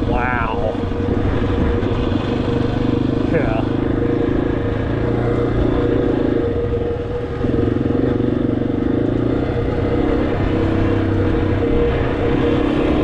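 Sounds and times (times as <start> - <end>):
motorcycle engine running: 0.0 - 13.0
steady rushing noise: 0.0 - 13.0.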